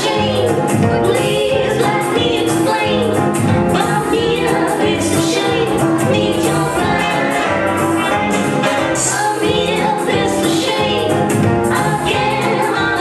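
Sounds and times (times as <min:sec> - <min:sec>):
upbeat swing dance music: 0:00.0 - 0:13.0.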